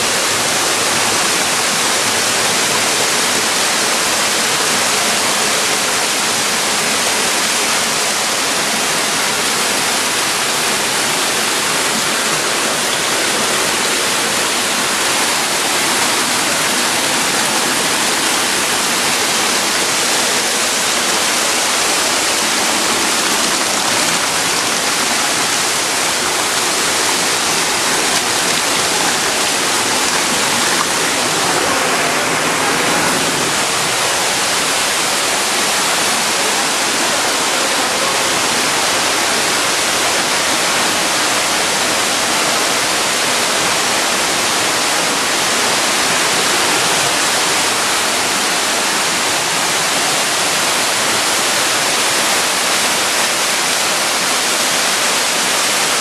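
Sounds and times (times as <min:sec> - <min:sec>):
waterfall rushing and splashing: 0:00.0 - 0:56.0.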